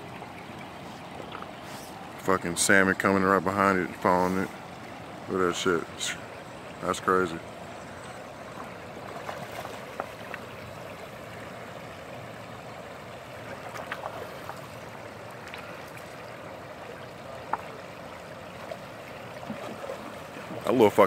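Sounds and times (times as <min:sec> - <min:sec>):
river water rushing over shallows: 0:00.0 - 0:21.0.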